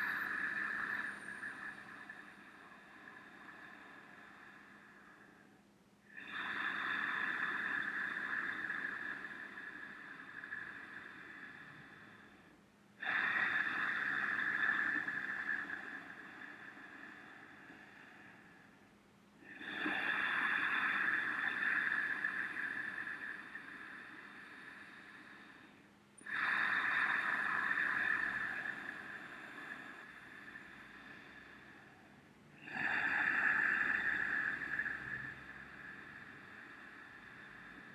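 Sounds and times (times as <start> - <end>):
long breathy throat breaths: 0.0 - 37.9.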